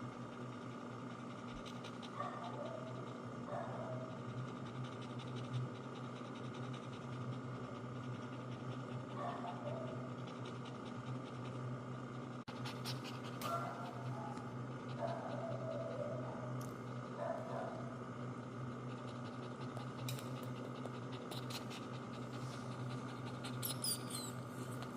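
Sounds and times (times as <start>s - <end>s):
dog panting rapidly: 0.0s - 17.8s, 18.5s - 24.9s
steady hum: 0.0s - 24.9s.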